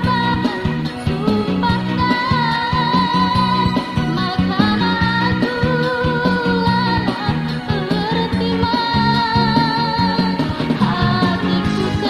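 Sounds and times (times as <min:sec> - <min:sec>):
pop song: 0:00.0 - 0:12.0
repeating bass line: 0:00.0 - 0:12.0
wavering vocal melody: 0:00.0 - 0:12.0.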